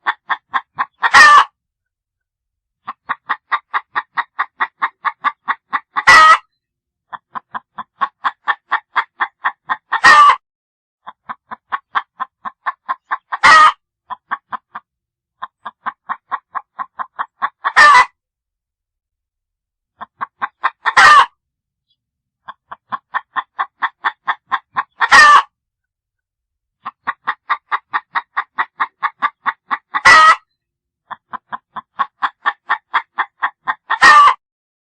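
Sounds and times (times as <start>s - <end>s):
hen clucking: 0.0s - 1.6s, 2.8s - 10.4s, 11.0s - 18.2s, 20.0s - 21.4s, 22.4s - 25.5s, 26.8s - 34.4s.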